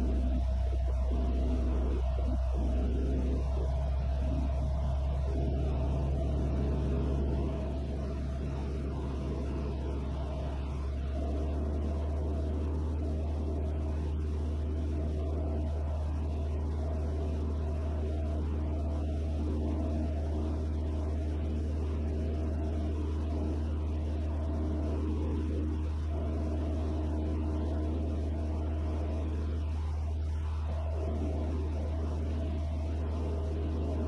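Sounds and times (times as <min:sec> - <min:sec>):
airplane engine and propeller drone: 0:00.0 - 0:34.0.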